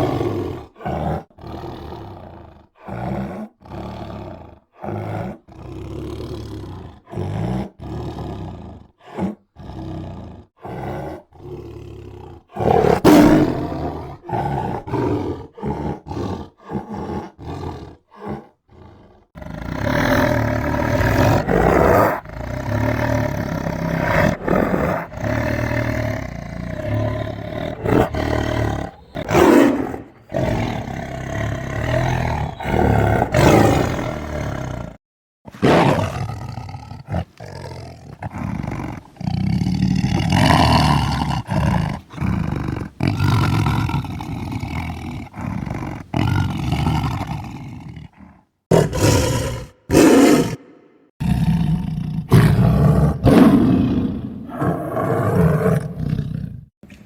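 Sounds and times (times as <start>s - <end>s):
tiger roaring and growling: 0.0s - 56.7s.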